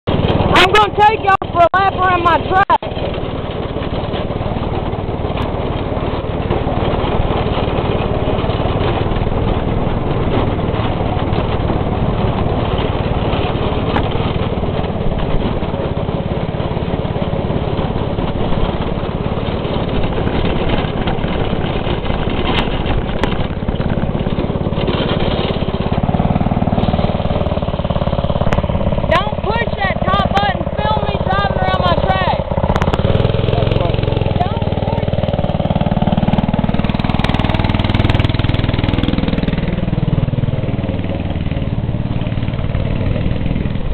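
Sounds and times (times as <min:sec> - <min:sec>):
go-kart engine running: 0:00.0 - 0:43.9.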